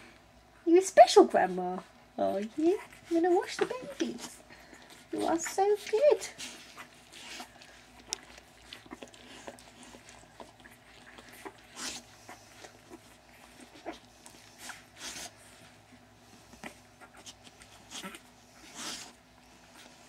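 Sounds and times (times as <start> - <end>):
puppies suckling: 0.0 - 20.0.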